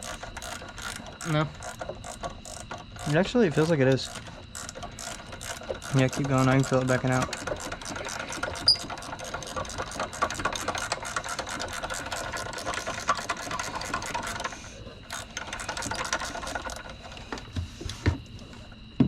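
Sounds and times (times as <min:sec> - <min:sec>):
ratchet wrench clicking rapidly: 0:00.0 - 0:17.0.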